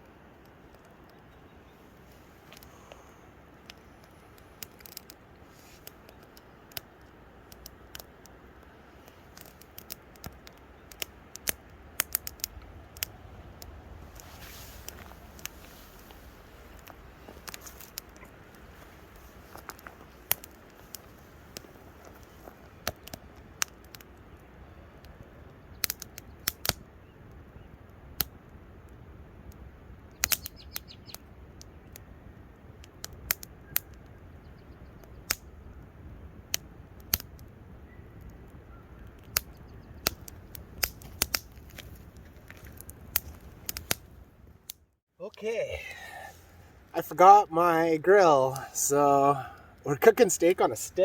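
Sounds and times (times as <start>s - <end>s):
campfire crackling and popping: 0.0s - 51.0s.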